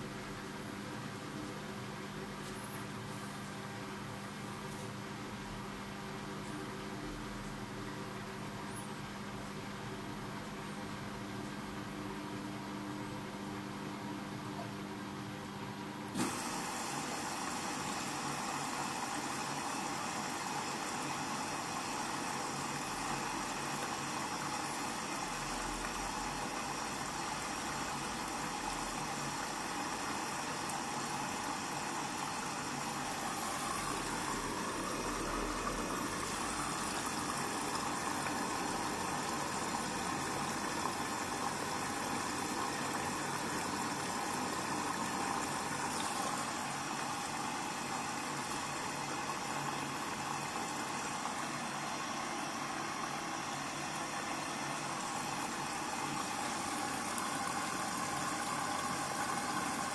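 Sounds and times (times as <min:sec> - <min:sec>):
washing machine drum whirring: 0:00.0 - 0:59.9.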